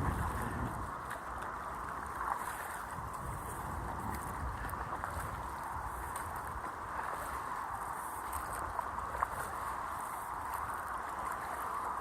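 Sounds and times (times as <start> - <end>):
water washing around paddle board: 0.0 - 12.0
wind rumbling on microphone: 0.0 - 12.0.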